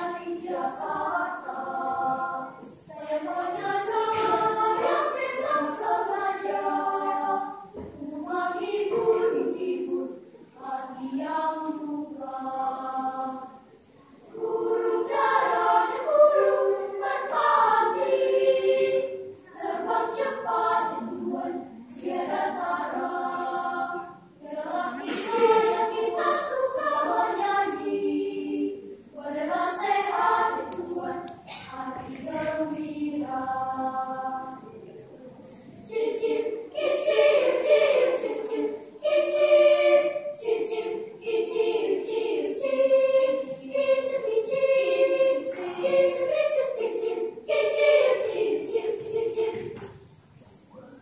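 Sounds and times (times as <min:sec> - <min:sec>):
children's choir singing: 0:00.0 - 0:51.0.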